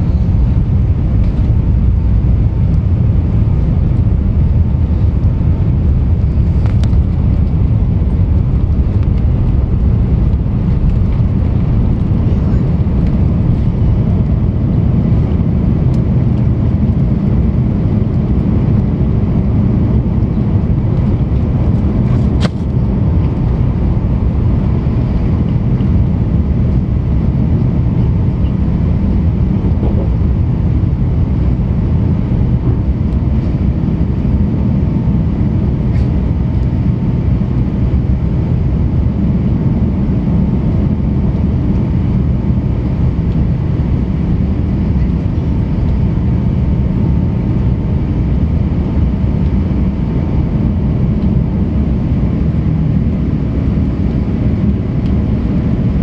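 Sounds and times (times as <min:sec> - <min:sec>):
faint engine whine: 0:00.0 - 0:56.0
jet engines rumbling in cabin: 0:00.0 - 0:56.0.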